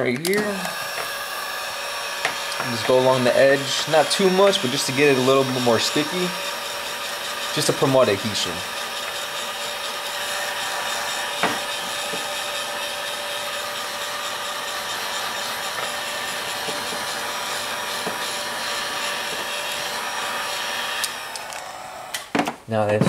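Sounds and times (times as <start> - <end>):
heat gun blowing hot air: 0.0 - 22.4.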